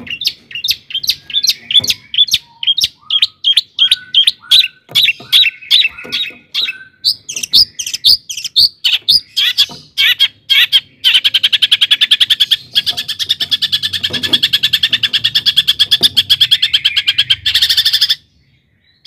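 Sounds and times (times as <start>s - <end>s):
bird chattering rapidly: 0.0s - 18.2s
bird singing sharp notes: 0.0s - 19.0s.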